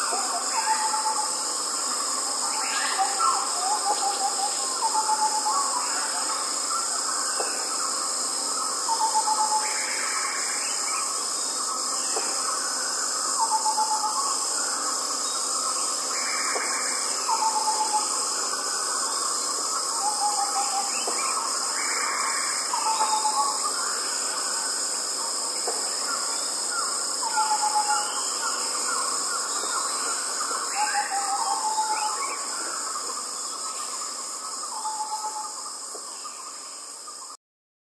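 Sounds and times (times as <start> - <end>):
crickets chirring: 0.0 - 37.4.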